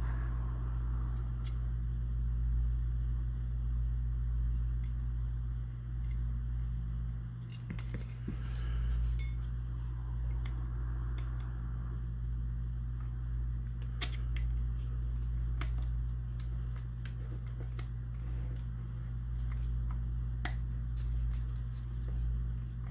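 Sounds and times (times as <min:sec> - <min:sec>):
low electrical hum: 0:00.0 - 0:22.9.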